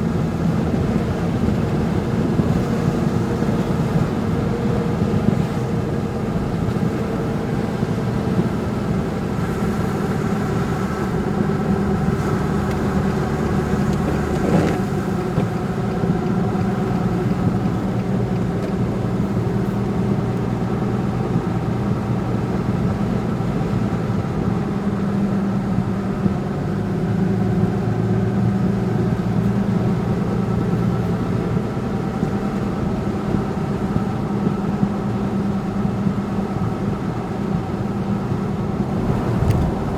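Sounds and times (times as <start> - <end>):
vehicle engine drone and road noise: 0.0 - 39.9.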